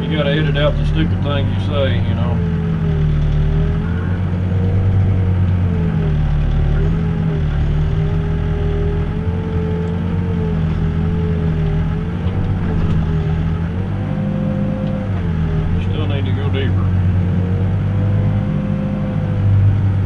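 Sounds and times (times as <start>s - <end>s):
backhoe diesel engine running: 0.0s - 20.0s.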